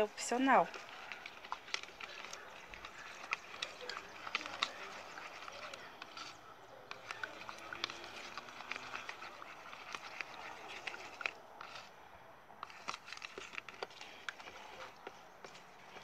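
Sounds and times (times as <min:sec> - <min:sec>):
soft clicks and scrapes: 0:00.0 - 0:12.0, 0:12.6 - 0:16.0
plastic spoon stirring slime: 0:00.0 - 0:16.0.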